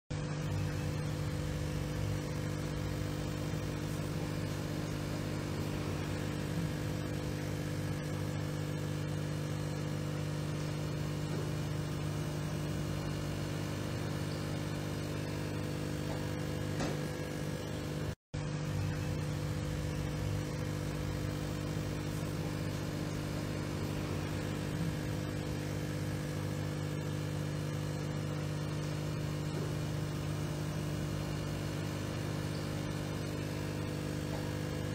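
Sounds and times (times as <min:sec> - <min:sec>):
aquarium pump humming: 0:00.1 - 0:34.9.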